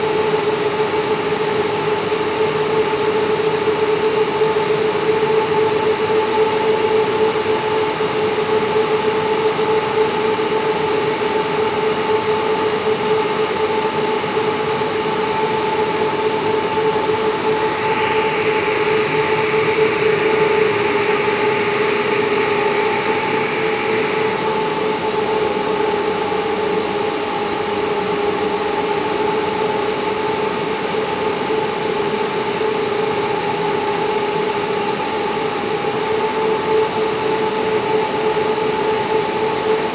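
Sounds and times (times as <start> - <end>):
high machine whine: 0.0 - 39.9.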